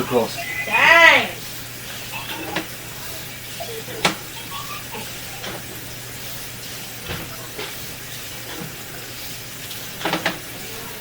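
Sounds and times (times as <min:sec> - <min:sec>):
water running from faucet: 0:00.0 - 0:11.0.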